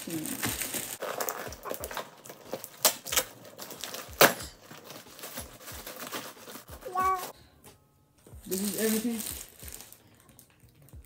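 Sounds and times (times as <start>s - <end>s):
cardboard and plastic rustling: 0.0s - 7.4s, 8.4s - 11.0s.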